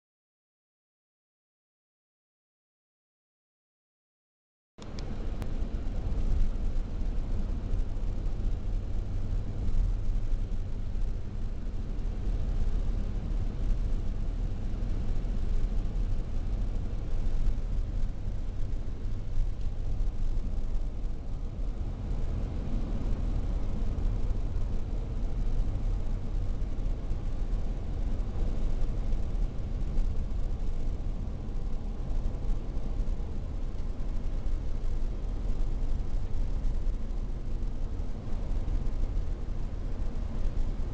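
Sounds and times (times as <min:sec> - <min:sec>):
engine and tyre rumble: 0:04.8 - 0:40.9.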